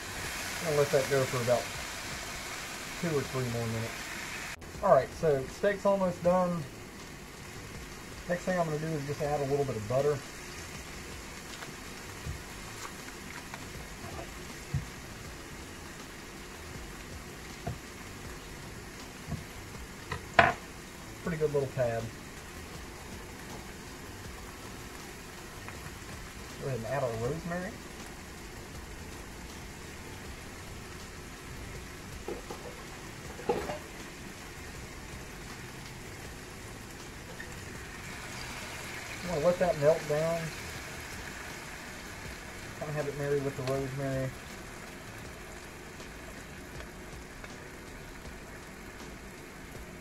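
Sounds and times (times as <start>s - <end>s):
steak sizzling in a hot pan: 0.0s - 50.0s.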